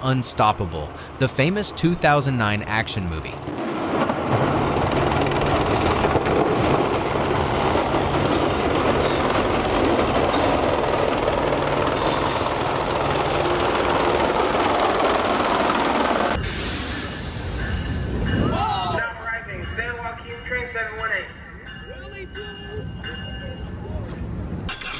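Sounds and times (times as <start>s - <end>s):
train rumbling: 0.0s - 24.9s.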